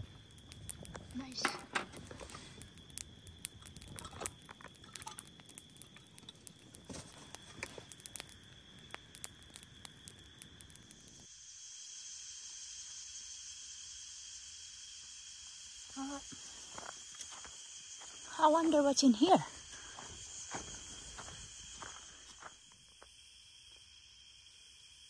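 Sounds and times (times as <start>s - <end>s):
steady high hiss: 0.0s - 25.0s.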